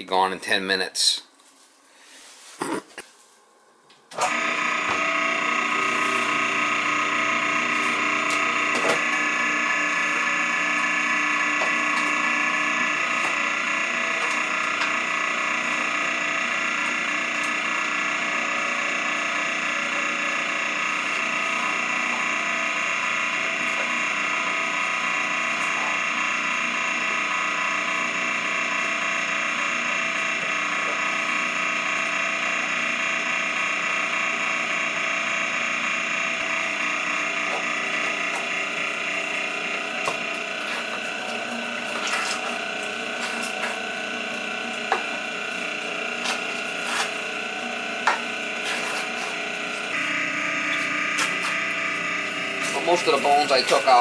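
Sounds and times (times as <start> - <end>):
meat grinder motor whine: 4.1 - 54.0.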